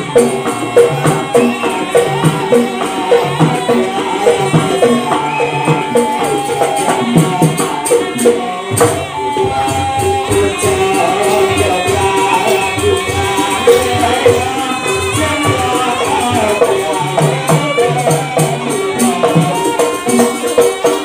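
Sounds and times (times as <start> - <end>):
gamelan percussion ensemble: 0.0 - 21.0.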